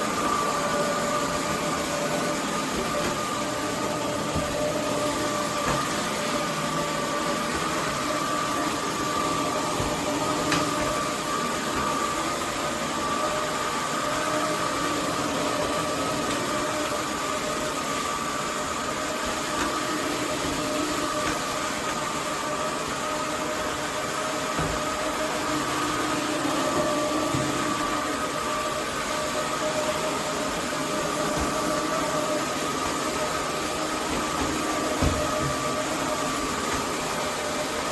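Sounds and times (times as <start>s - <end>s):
floor vacuum running: 0.0s - 37.9s.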